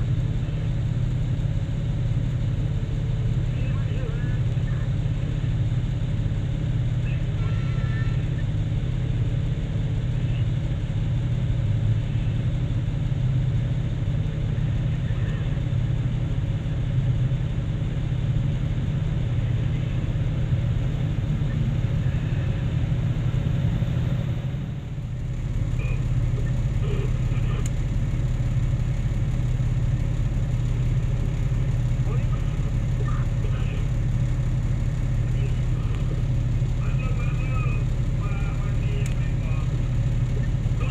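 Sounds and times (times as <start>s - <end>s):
heavy diesel engines droning: 0.0s - 40.9s.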